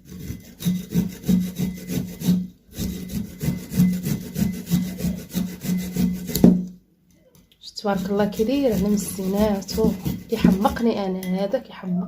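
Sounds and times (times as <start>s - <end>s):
root rasping on hand grater: 0.0s - 6.6s, 7.8s - 11.0s.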